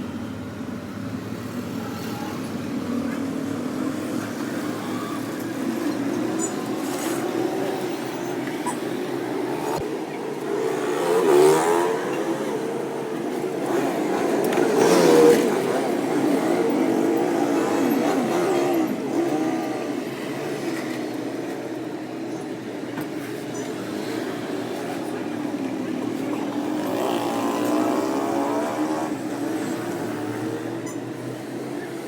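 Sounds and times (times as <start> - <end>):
vehicle engines running: 0.0 - 32.0
vehicles passing close by: 0.0 - 32.0.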